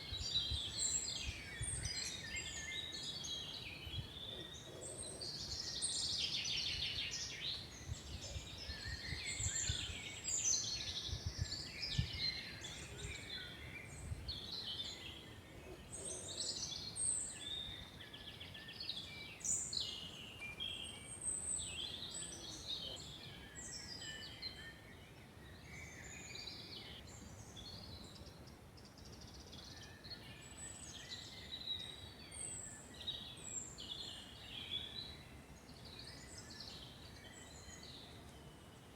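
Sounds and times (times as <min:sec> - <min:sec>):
forest birds singing: 0:00.0 - 0:38.9.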